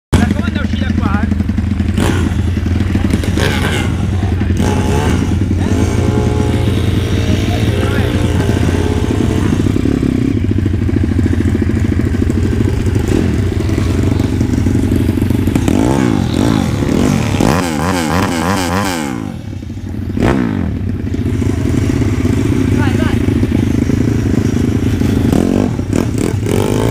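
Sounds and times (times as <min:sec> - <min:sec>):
pit bike engines revving: 0:00.2 - 0:26.9.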